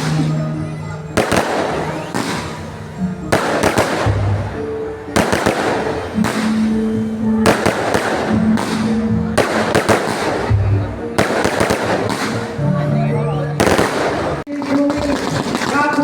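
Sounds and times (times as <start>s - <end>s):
fireworks crackling bangs: 0.0s - 12.8s, 13.6s - 16.0s
background music: 0.0s - 16.0s.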